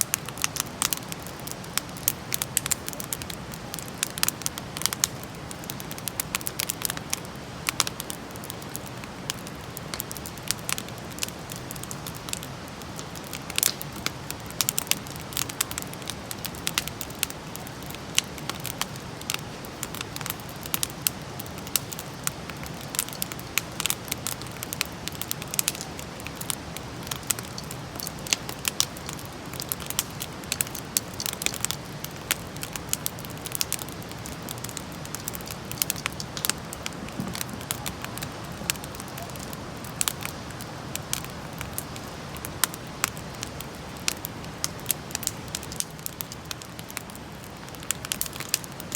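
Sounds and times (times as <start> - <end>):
campfire pops and snaps: 0.0 - 48.9
low rush of flames: 0.1 - 48.9.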